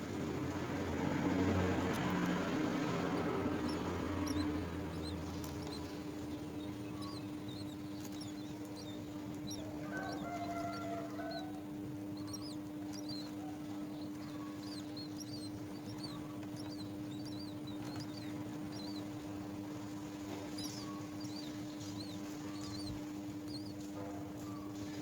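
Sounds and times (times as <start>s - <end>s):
nestling birds chirping: 0.0s - 25.0s
steady low hum: 0.0s - 25.0s.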